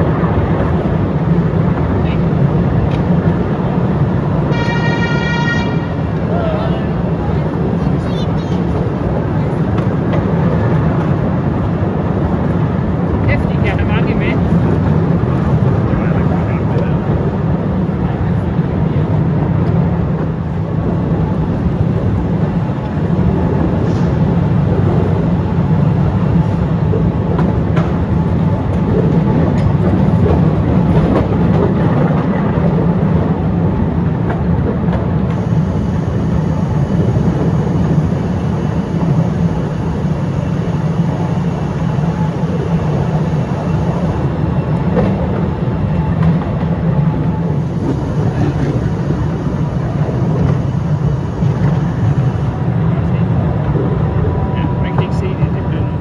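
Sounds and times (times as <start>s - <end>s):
train running on track: 0.0s - 56.0s.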